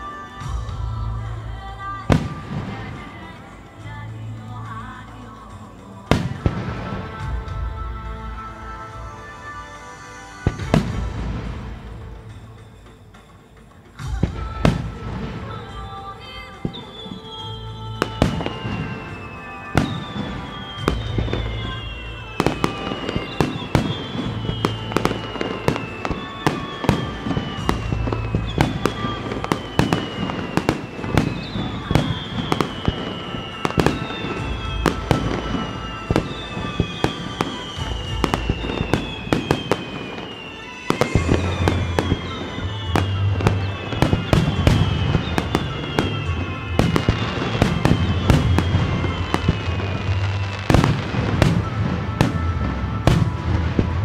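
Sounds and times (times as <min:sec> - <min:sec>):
falling firework whistle: 0:00.0 - 0:04.0, 0:04.6 - 0:54.0
fireworks bursting with sharp bangs: 0:00.0 - 0:54.0
music over loudspeakers: 0:00.0 - 0:54.0.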